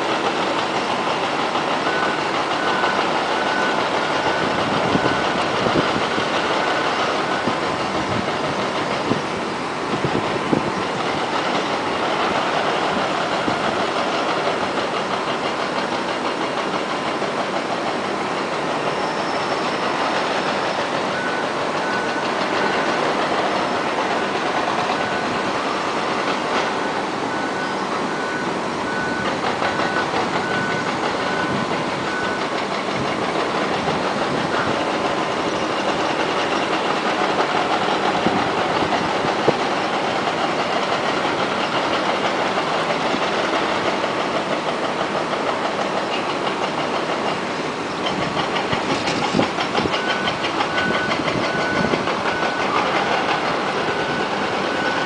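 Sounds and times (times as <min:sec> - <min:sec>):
engine and machinery noise: 0:00.0 - 0:55.0.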